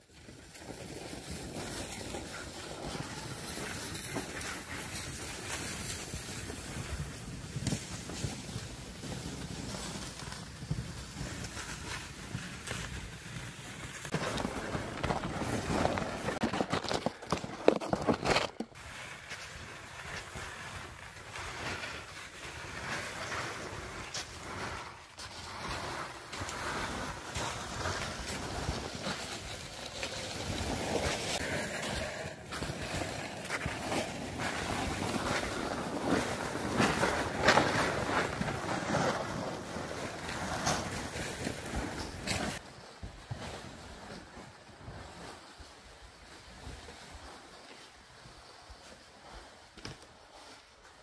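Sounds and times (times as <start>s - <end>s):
sleds shuffling and hissing: 0.0s - 51.0s
snowshoe footsteps crunching snow: 0.1s - 51.0s.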